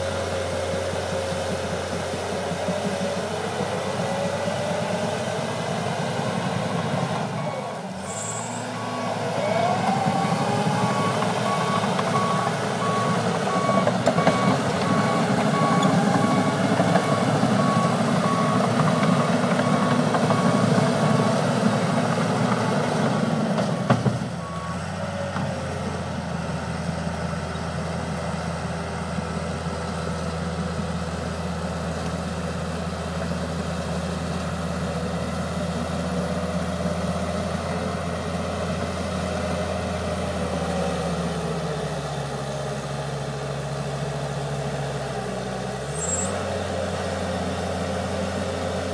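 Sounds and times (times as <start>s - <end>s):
diesel engine working hard: 0.0s - 48.9s.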